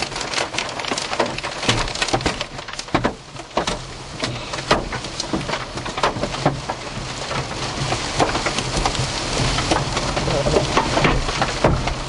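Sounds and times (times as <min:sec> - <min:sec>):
hail pelting a truck: 0:00.0 - 0:12.0.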